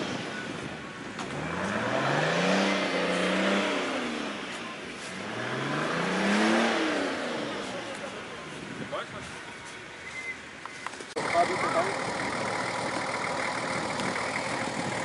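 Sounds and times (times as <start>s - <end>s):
vehicle engine revving: 0.0s - 8.3s, 11.2s - 15.0s.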